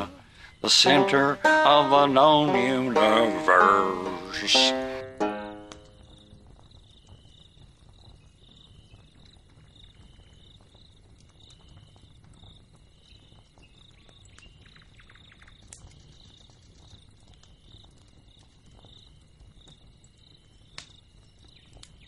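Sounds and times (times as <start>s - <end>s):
insects chirping: 0.0s - 22.0s
low background noise: 0.0s - 22.0s.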